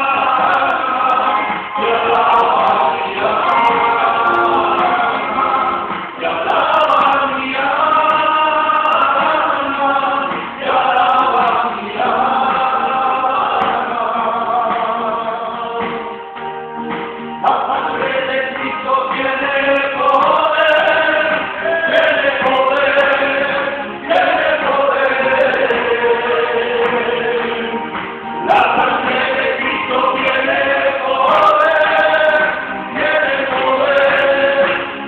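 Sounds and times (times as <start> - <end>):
men singing a hymn: 0.0 - 16.2, 17.4 - 35.0.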